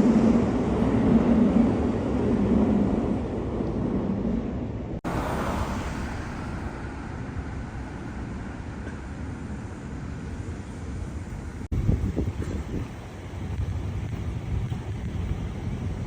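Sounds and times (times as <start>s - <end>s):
moving train rumble: 0.0s - 16.0s.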